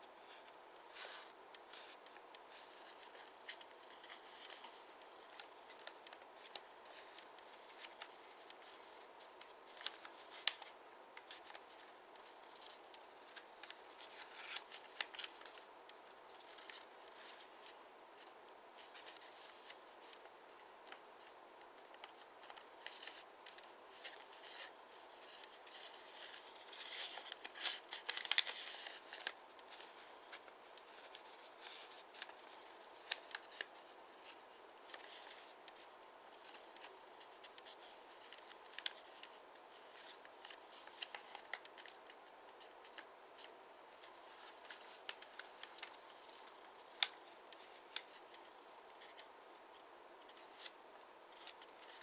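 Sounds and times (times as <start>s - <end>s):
faint room hiss: 0.0s - 52.0s
paper rustling: 0.1s - 49.3s, 50.2s - 52.0s
paper crease clicks: 1.0s - 49.3s.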